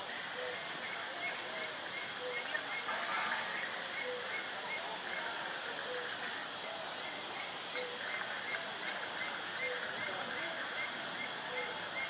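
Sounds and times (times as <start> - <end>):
small birds chirping: 0.0 - 12.0
steady high-pitched hiss: 0.0 - 12.0.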